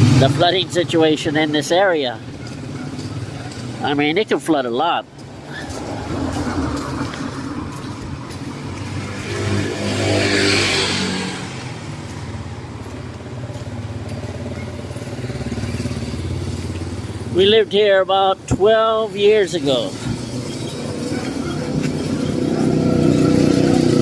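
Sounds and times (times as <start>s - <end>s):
vehicle passing close: 0.0s - 18.3s, 19.2s - 24.0s
low traffic hum: 0.0s - 24.0s.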